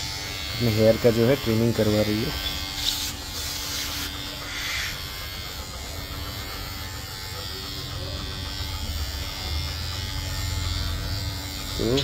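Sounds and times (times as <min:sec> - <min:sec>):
electric pet hair trimmer buzzing: 0:00.0 - 0:12.0.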